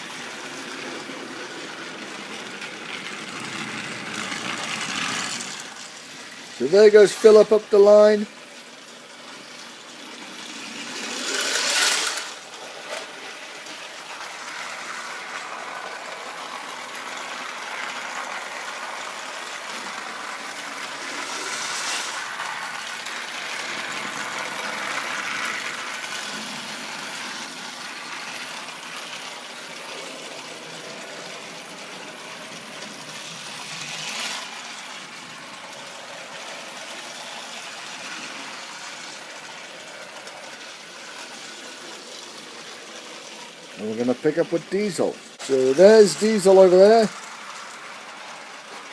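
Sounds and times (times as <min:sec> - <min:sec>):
toy train motors whirring: 0:00.0 - 0:48.9.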